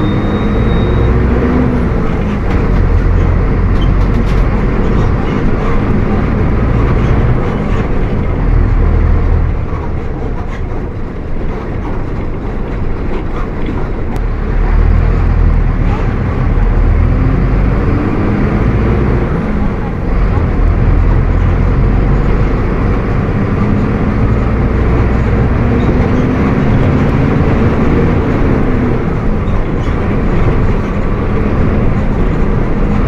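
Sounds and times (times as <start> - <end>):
bus diesel engine running: 0.0 - 33.0.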